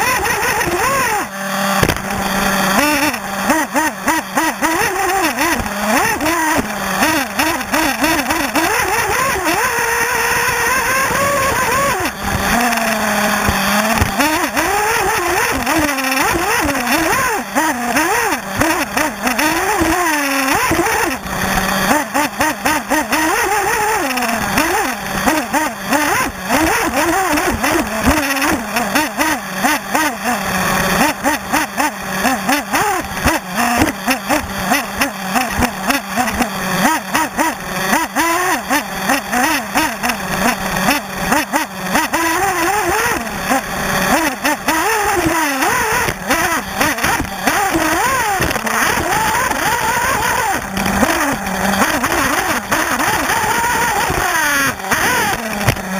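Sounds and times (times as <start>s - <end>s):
model car engine revving: 0.0s - 55.9s.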